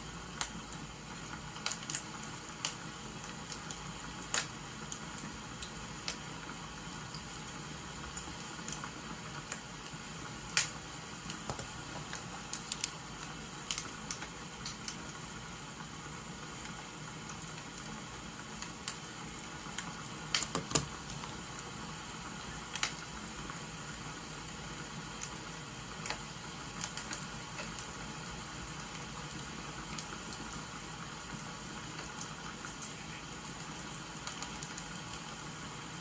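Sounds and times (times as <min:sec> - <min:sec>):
rain: 0:00.0 - 0:20.4, 0:21.1 - 0:36.0
crackling fire: 0:00.1 - 0:36.0.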